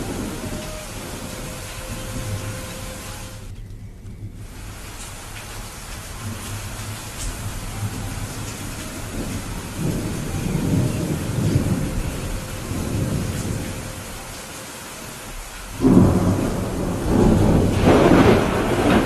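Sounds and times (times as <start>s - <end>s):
thunderclap: 0.0s - 3.5s, 4.2s - 14.6s, 15.4s - 19.0s
rain hissing: 0.0s - 19.0s
thunder rumbling: 0.0s - 19.0s.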